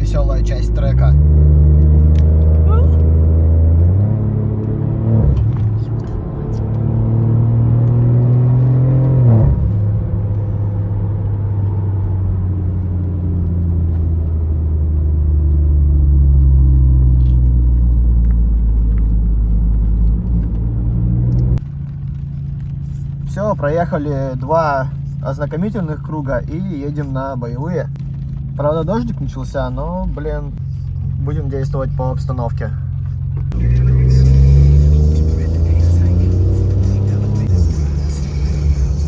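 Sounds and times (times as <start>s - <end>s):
car engine pulling hard: 0.0s - 39.0s.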